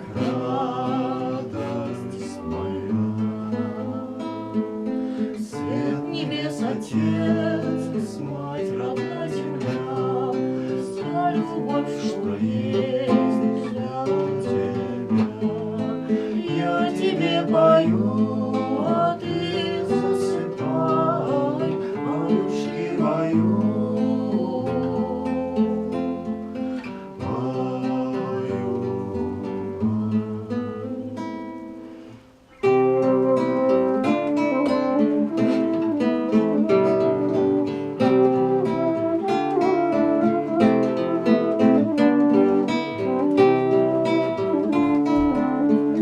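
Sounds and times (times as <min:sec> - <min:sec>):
plucked string instrument: 0:00.0 - 0:46.0.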